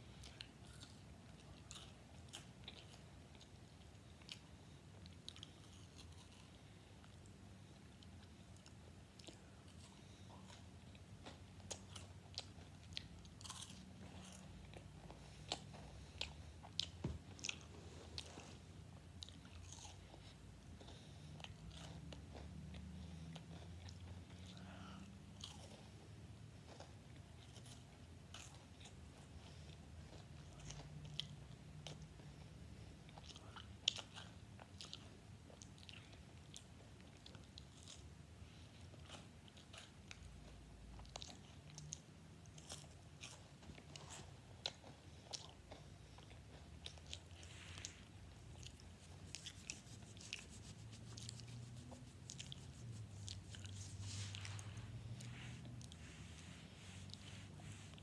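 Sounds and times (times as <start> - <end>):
crunching and chewing wafer: 0.1 - 56.0.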